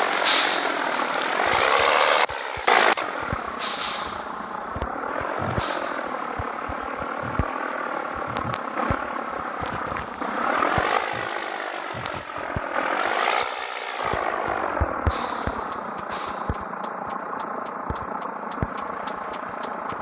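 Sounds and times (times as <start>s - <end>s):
diesel truck engine under load: 0.0s - 20.0s.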